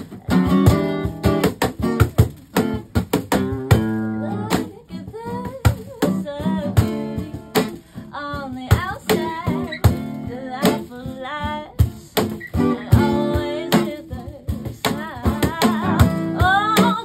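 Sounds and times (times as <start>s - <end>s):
woman singing: 0.0s - 2.7s, 3.3s - 17.0s
cajon strokes: 0.0s - 17.0s
strummed acoustic guitar: 0.0s - 17.0s.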